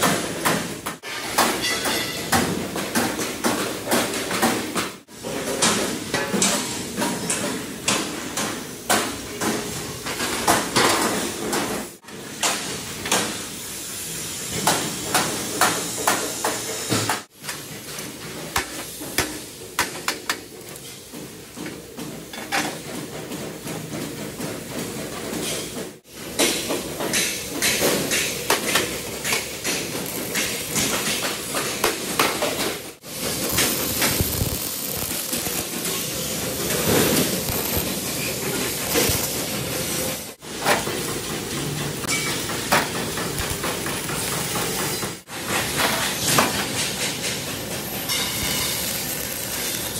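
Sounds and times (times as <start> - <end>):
workshop din: 0.0 - 49.9.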